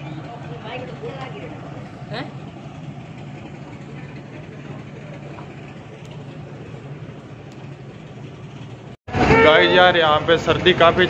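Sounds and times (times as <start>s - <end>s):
low hum from standing trains: 0.0s - 11.0s.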